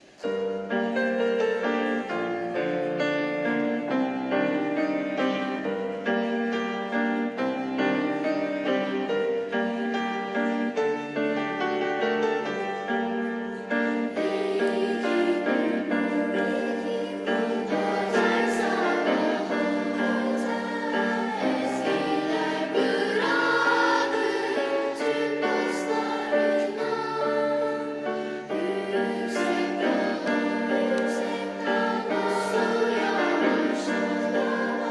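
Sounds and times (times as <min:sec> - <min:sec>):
children's choir singing: 0:00.0 - 0:34.9
piano accompaniment: 0:00.0 - 0:34.9.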